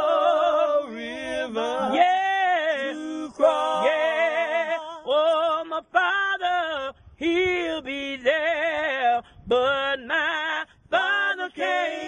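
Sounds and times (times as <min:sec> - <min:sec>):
unaccompanied gospel singing: 0:00.0 - 0:12.0.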